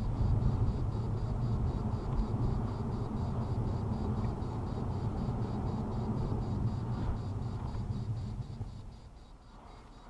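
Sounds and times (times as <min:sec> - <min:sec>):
road and engine rumble in car: 0:00.0 - 0:09.4.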